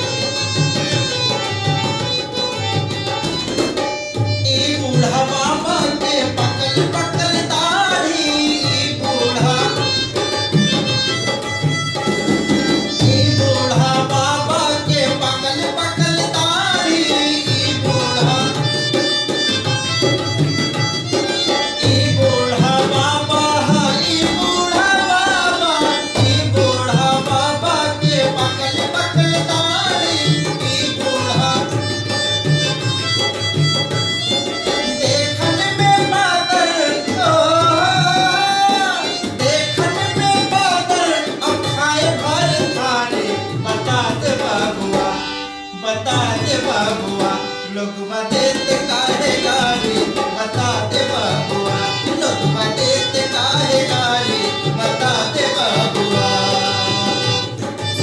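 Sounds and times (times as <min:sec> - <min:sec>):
dholak drum beating: 0:00.0 - 0:58.0
harmonium: 0:00.0 - 0:58.0
man singing: 0:00.0 - 0:58.0.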